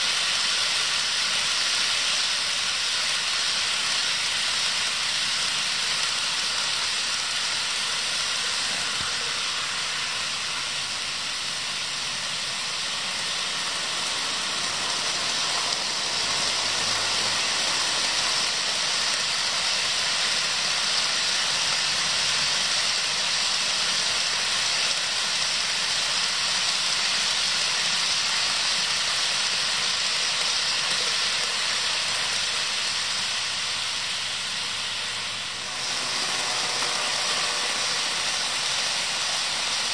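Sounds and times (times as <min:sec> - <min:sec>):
model train motors whirring: 0:00.0 - 0:39.9
wheels rolling on rails: 0:00.0 - 0:39.9.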